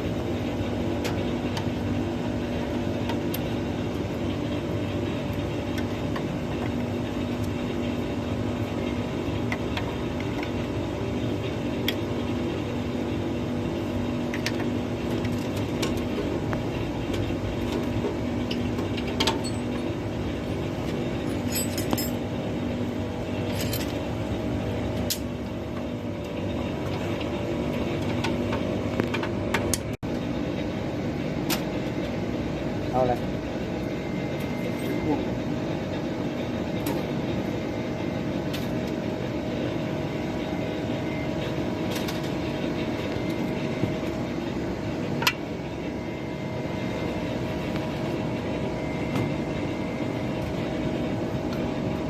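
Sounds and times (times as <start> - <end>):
air conditioner humming: 0.0 - 52.0.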